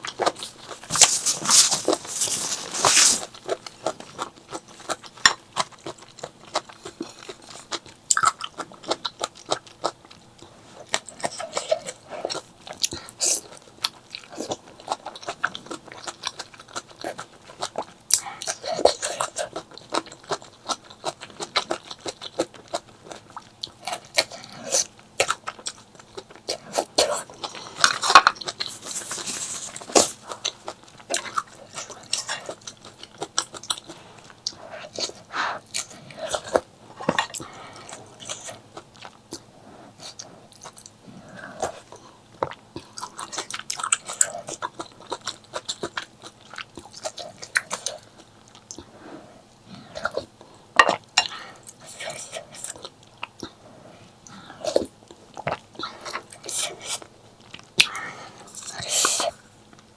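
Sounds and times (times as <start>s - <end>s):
chewing and crunching: 0.0s - 59.9s.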